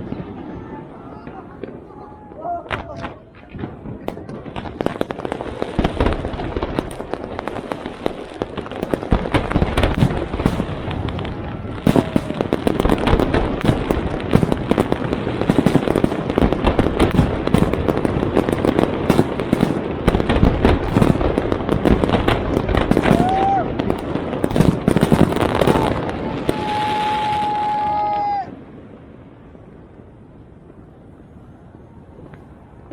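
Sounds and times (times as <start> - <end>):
fireworks crackling and banging: 0.0 - 32.9.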